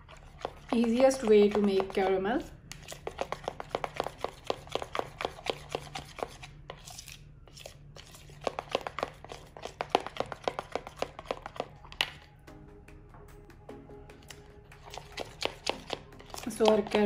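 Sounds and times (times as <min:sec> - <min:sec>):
spoon scraping mixing bowl: 0:00.0 - 0:12.3, 0:14.2 - 0:17.0.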